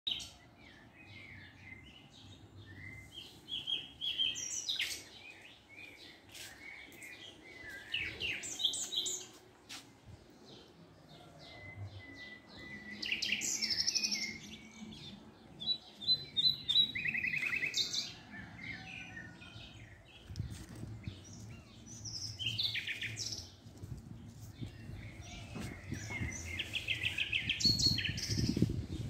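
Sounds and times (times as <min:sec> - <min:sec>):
songbirds chirping and singing: 0:00.1 - 0:29.0.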